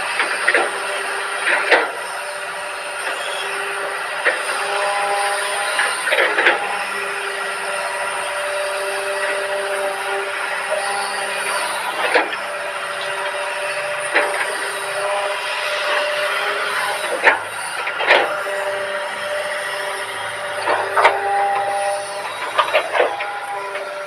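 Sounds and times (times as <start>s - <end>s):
excavator engine and hydraulics: 0.0s - 24.0s.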